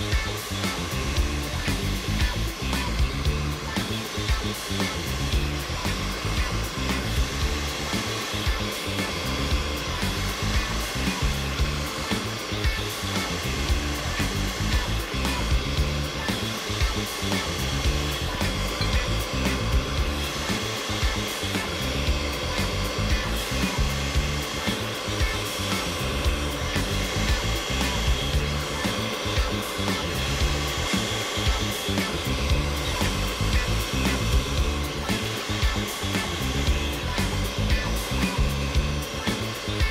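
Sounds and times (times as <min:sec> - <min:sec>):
food processor running: 0:00.0 - 0:39.9.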